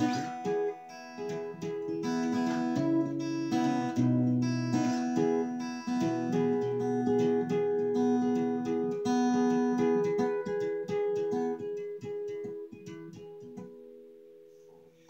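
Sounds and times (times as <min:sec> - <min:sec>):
acoustic guitar picked notes: 0:00.0 - 0:15.0.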